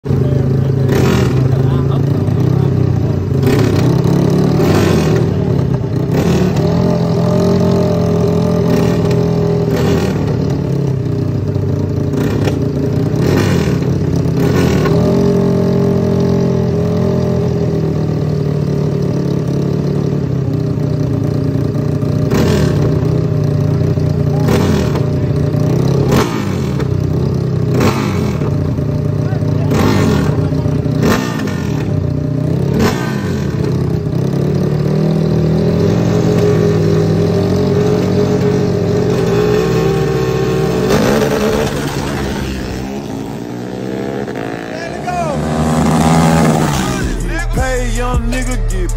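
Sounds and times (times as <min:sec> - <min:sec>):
atv engines revving: 0:00.0 - 0:48.9.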